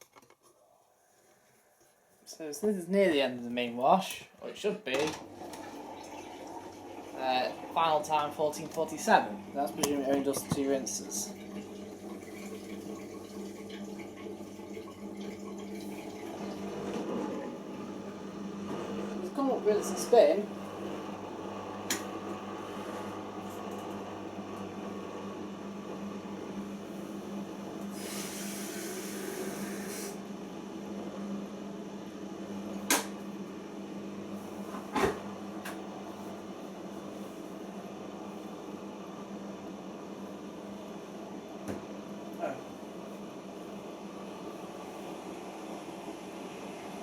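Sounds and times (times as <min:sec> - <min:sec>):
washing machine pump hum: 0:01.3 - 0:47.0.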